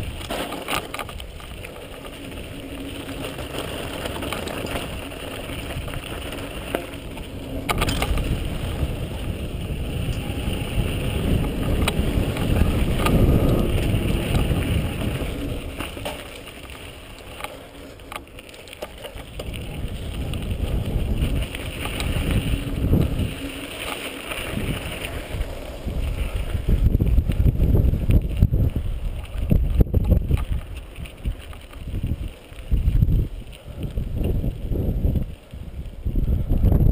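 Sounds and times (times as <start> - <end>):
wind on microphone: 0.0 - 18.2, 18.8 - 36.9
bike knocking over bumps: 0.0 - 32.2
bike tyres on dirt and stones: 0.0 - 36.9.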